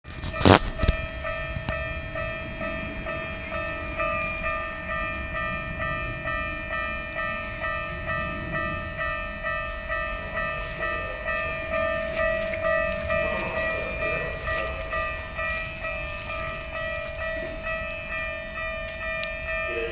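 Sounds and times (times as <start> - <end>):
train rumbling past: 0.0 - 19.9
level crossing alarm ringing: 0.1 - 19.9.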